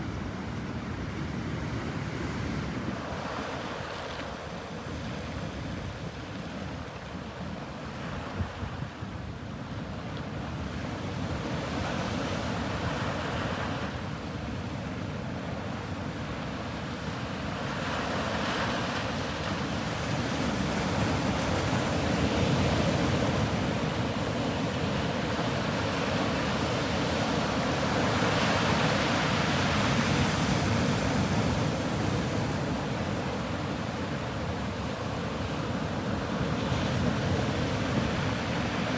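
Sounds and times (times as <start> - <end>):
sea waves breaking on shore: 2.0 - 38.9.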